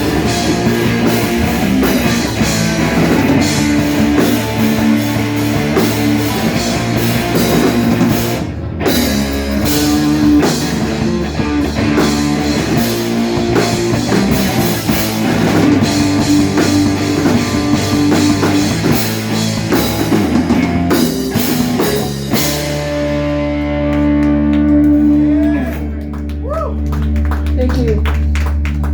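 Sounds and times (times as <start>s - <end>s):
distorted electric guitars: 0.0s - 28.9s
drum kit pounding: 0.0s - 28.9s
rock band playing live: 0.0s - 28.9s.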